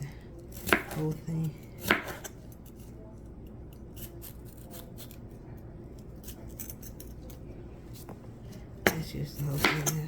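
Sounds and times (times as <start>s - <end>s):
knife cutting bell pepper: 0.0s - 10.0s.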